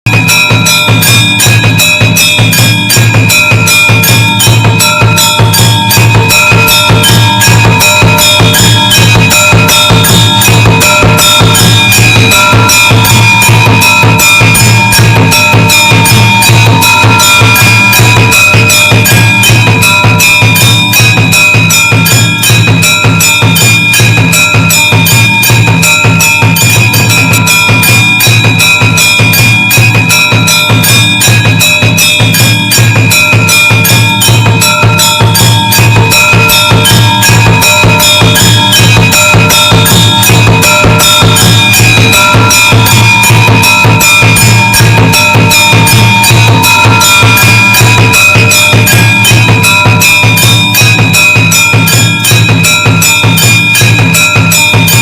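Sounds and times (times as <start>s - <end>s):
drums beating fast rhythm: 0.0s - 55.0s
ringing bell tones: 0.1s - 55.0s.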